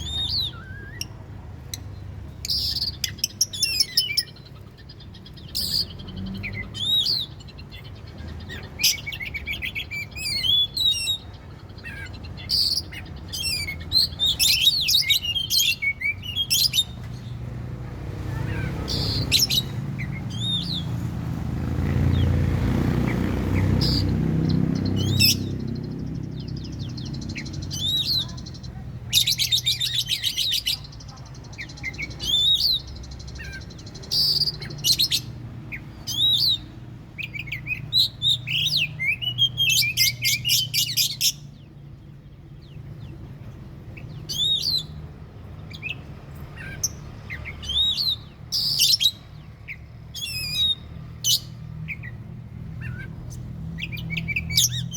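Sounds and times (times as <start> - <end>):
bird song with whistled phrases: 0.0 - 17.4, 18.3 - 21.0, 23.5 - 43.2, 43.9 - 54.9.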